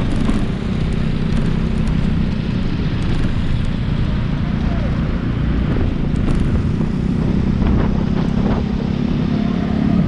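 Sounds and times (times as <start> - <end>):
motorcycle engine running: 0.0 - 9.0
light city traffic: 0.0 - 10.0
wind and road noise: 0.0 - 10.0.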